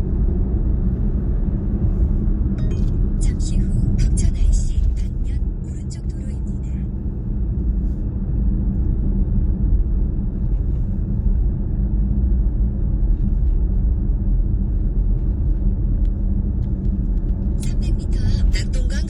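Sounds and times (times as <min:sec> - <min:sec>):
low road rumble: 0:00.0 - 0:19.0.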